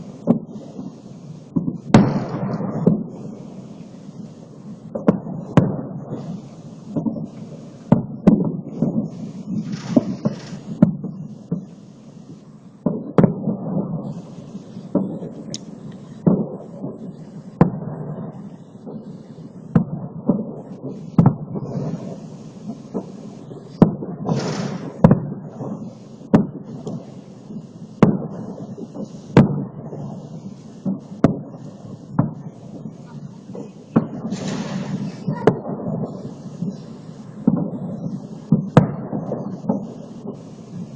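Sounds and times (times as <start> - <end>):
fireworks booming: 0.0 - 40.9.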